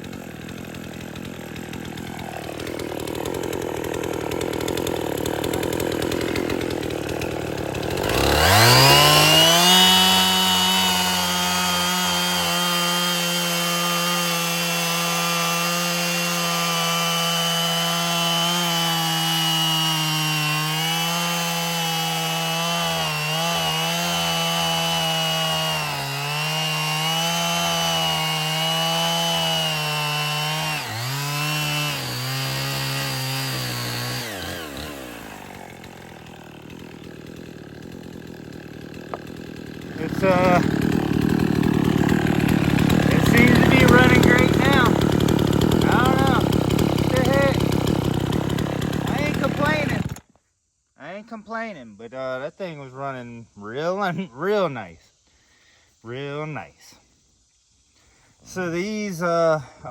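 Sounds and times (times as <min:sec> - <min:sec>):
chainsaw revving: 0:00.0 - 0:50.3.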